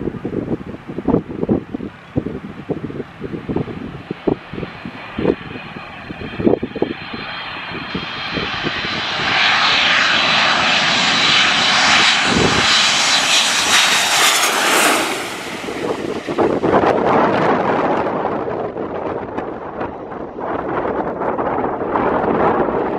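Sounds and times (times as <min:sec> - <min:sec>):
airplane engines passing overhead: 0:00.0 - 0:22.9
wind buffeting microphone: 0:00.0 - 0:22.9.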